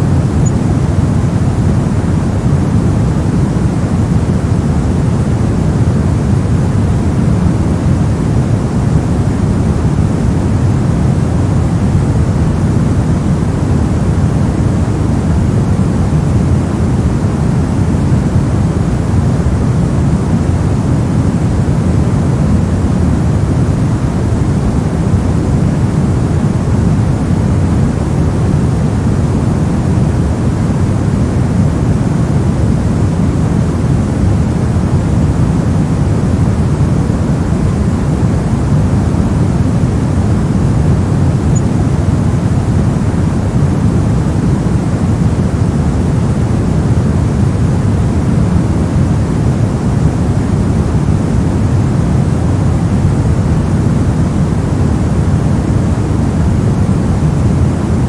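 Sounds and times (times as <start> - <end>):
electronic white noise: 0.0 - 58.0.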